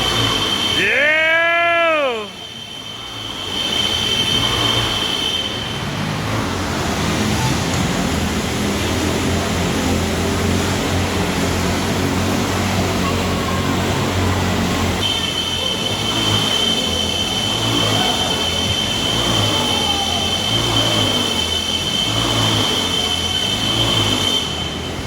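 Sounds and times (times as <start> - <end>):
motorcycle engines droning: 0.0 - 25.0.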